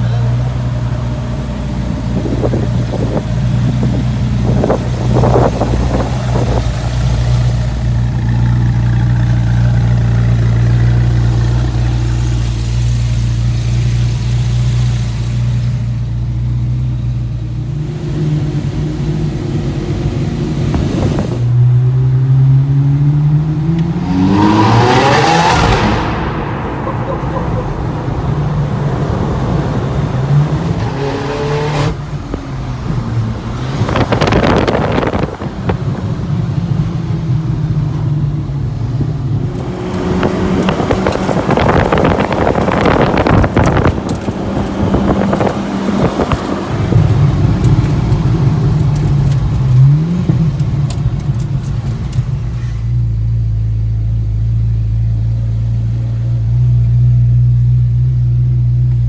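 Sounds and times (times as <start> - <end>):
car engine revving: 0.0 - 53.1.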